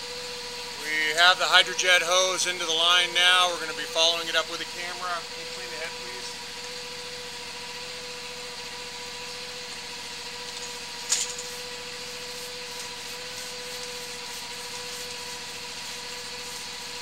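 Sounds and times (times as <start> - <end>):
machine drone with whine: 0.0 - 17.0.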